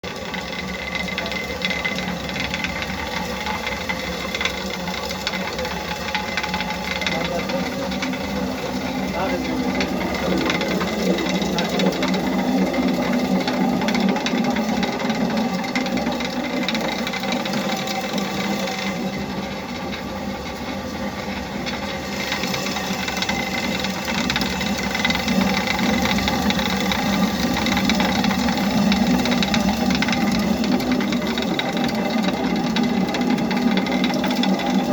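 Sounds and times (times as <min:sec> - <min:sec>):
engine running with rattle: 0:00.0 - 0:34.9.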